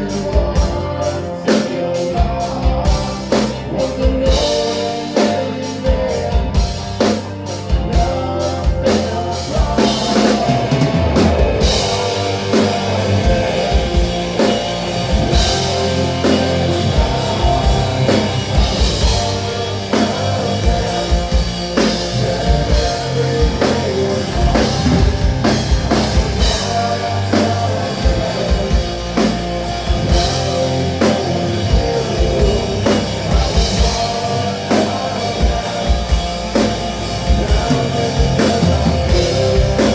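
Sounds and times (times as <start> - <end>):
drum kit beat: 0.0 - 39.9
electric guitar: 0.0 - 39.9
rock band playing: 0.0 - 39.9.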